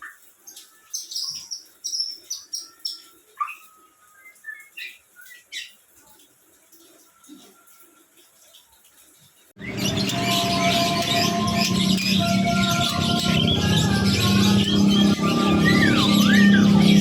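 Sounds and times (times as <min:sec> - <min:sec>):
songbirds chirping: 0:00.0 - 0:07.5, 0:09.5 - 0:17.0.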